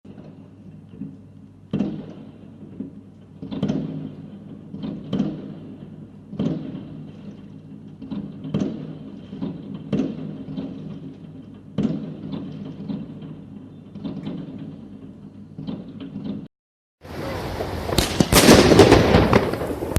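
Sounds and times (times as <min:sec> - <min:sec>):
fireworks bangs with echoing rumble: 0:00.1 - 0:19.9.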